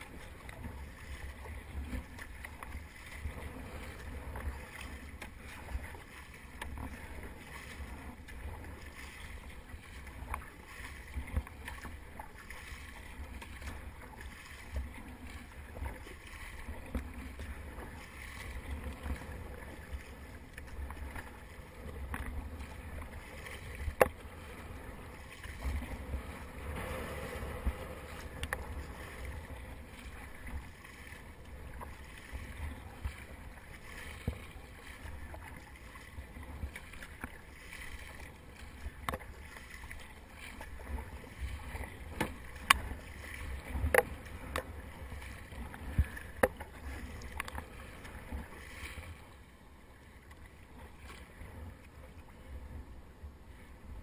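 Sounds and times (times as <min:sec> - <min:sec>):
paddle strokes splashing water: 0:00.0 - 0:54.0.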